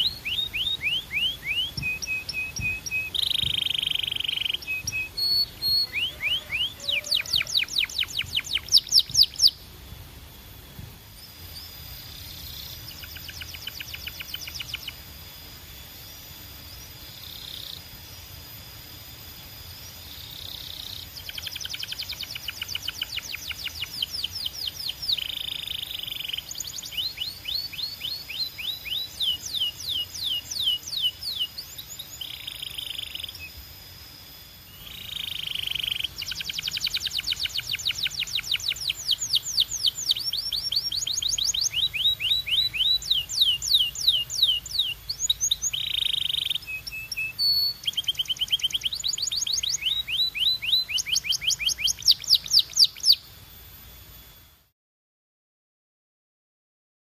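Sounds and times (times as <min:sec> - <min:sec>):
canary singing rapid trills: 0:00.0 - 0:09.8, 0:11.1 - 0:53.4.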